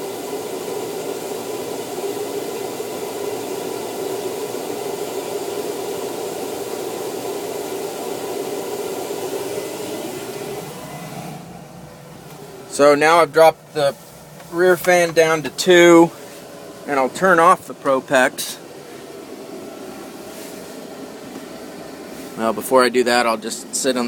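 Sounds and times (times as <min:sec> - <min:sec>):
engine idling: 0:00.0 - 0:24.0
heater blower fan rushing air: 0:00.0 - 0:24.0
heater fan running: 0:00.0 - 0:24.0.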